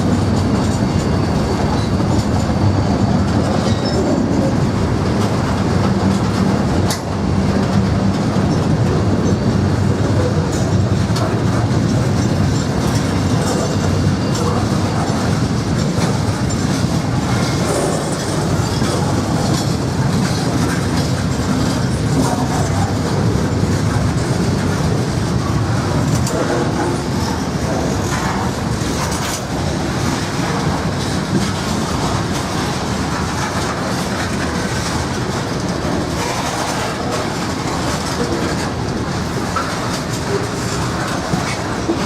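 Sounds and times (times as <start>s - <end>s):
train wheels clattering over rail joints: 0.0s - 42.0s.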